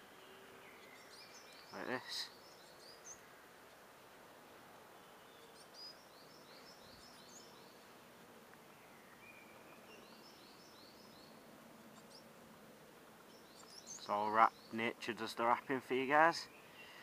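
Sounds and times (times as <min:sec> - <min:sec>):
small birds chirping: 0:00.0 - 0:17.0
woodland background hiss: 0:00.0 - 0:17.0.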